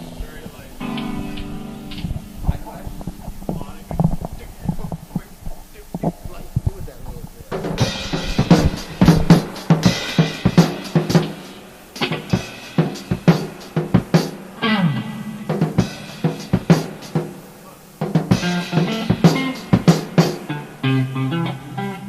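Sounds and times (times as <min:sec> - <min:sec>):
drum kit beat: 0:00.0 - 0:22.0
held pitched band notes: 0:00.0 - 0:22.0.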